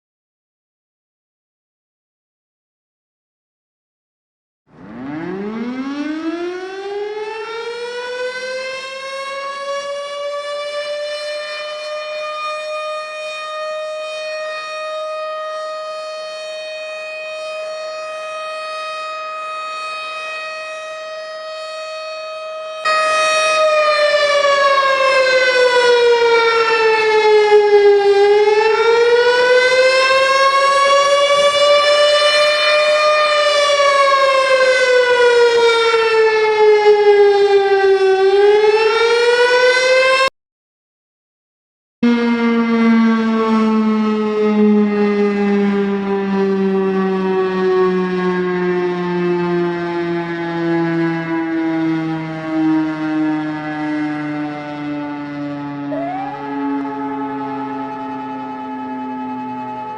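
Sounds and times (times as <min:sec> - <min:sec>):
tornado warning siren wailing: 0:04.7 - 0:40.3, 0:42.0 - 0:59.9.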